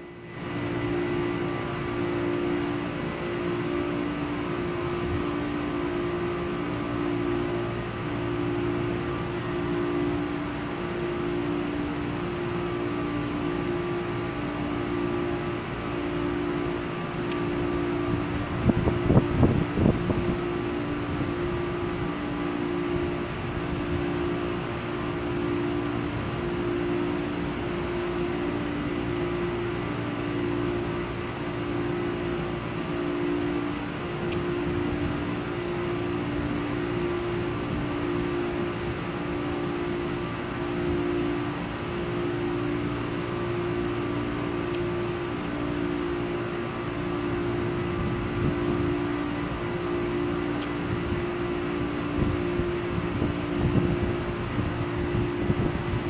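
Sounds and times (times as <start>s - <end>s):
drone propellers humming: 0.0s - 56.0s.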